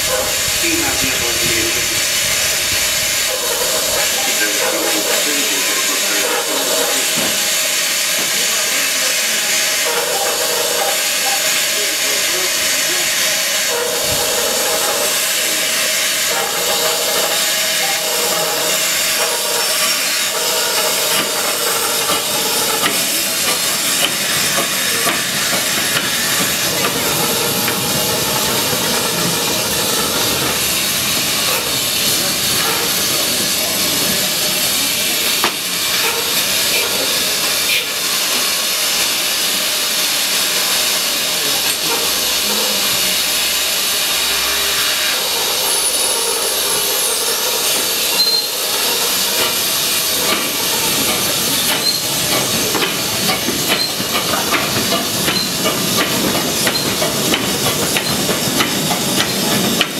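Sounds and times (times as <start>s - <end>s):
steam locomotive venting steam: 0.0s - 59.9s.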